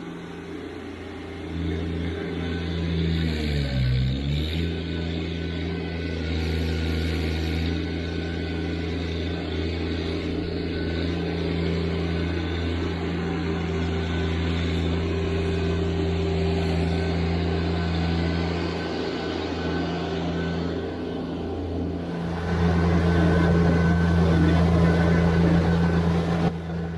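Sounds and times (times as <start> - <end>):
tractor diesel engine running: 4.8 - 26.9.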